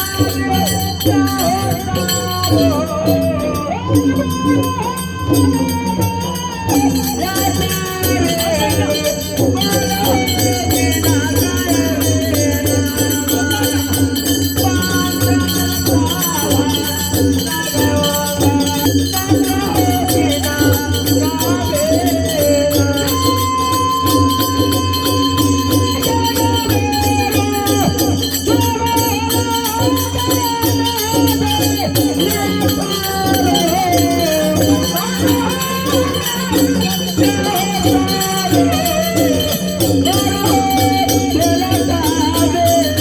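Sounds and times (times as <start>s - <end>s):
busy shaken percussion: 0.0s - 43.0s
person singing a melody: 0.0s - 43.0s.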